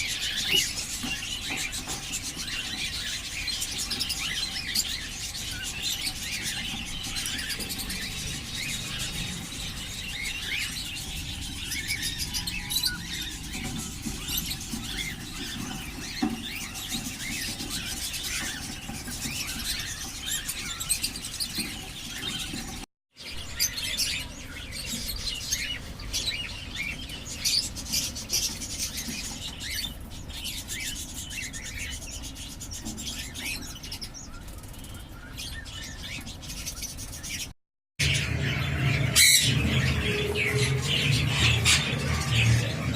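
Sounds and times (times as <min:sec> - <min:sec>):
budgies and cockatiels chattering: 0:00.0 - 0:42.9.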